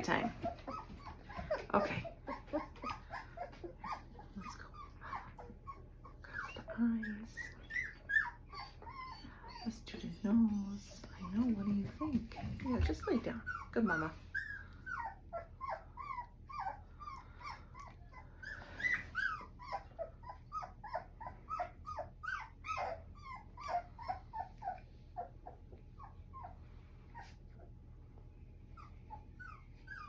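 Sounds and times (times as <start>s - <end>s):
puppy whimpering: 0.0s - 30.0s.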